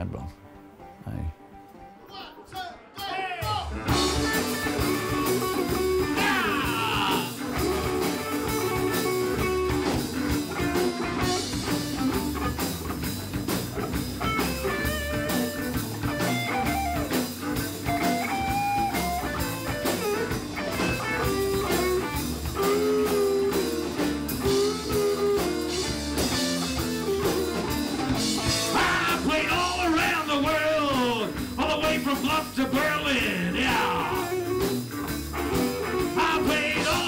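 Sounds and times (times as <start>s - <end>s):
blues band playing: 0.0s - 37.0s
sliding lead guitar line: 3.8s - 37.0s.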